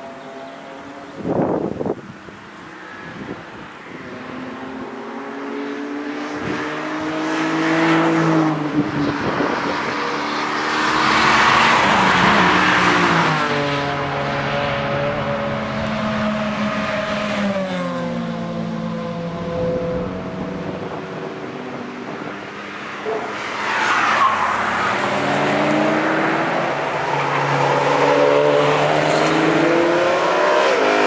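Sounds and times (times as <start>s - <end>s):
race cars driving past: 2.6s - 31.0s.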